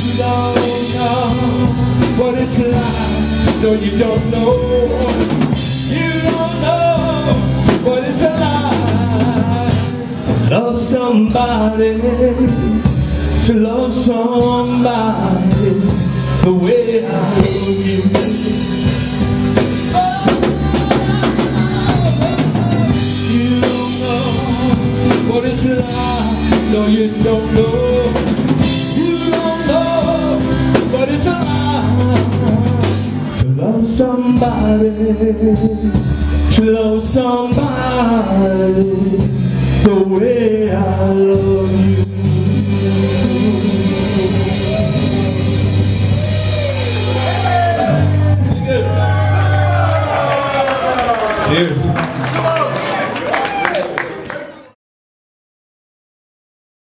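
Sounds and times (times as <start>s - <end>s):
man singing: 0.0s - 50.4s
drum kit beat: 0.0s - 50.6s
bass guitar: 0.0s - 54.6s
electric guitar: 0.0s - 54.6s.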